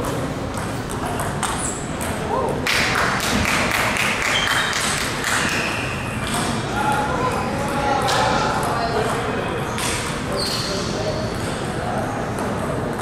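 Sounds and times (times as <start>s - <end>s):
murmur of voices: 2.1s - 13.0s.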